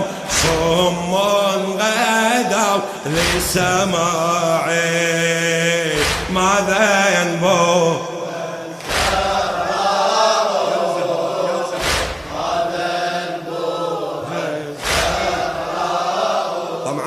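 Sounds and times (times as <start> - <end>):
men chanting slowly: 0.0 - 17.0.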